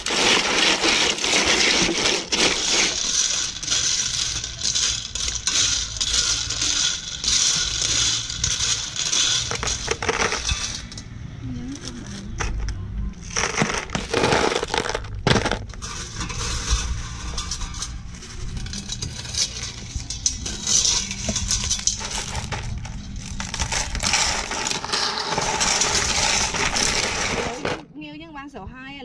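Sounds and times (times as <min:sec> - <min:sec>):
shells clattering in a strainer: 0:00.0 - 0:11.1, 0:13.3 - 0:27.8.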